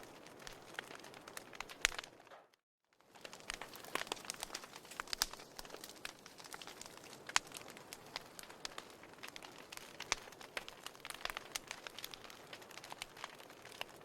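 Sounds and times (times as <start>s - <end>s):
firewood crackling and popping: 0.0s - 14.0s.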